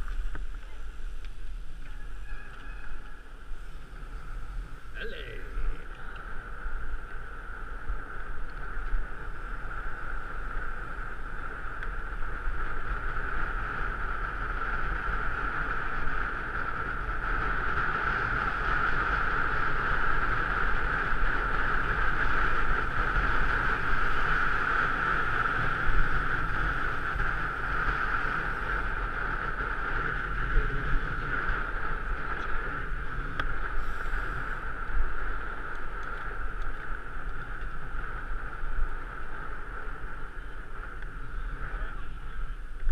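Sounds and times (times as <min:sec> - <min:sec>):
bicycle tyre noise: 0:00.0 - 0:42.9
wind buffeting microphone: 0:00.0 - 0:42.9.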